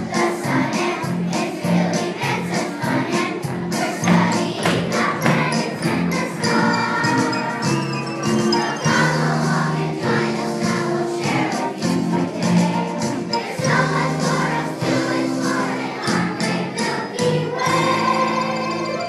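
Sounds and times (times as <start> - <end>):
children's choir singing: 0.0 - 19.0
musical accompaniment: 0.0 - 19.0.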